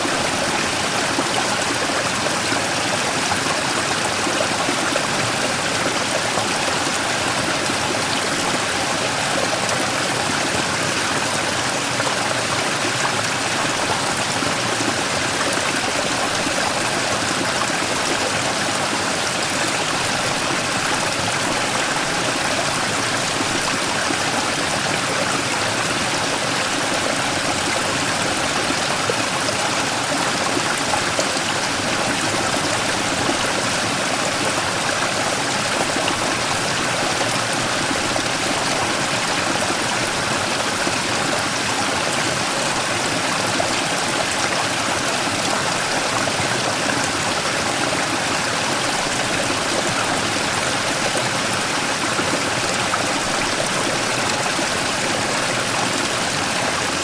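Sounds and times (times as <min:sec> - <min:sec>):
stream rushing over rock: 0:00.0 - 0:57.0.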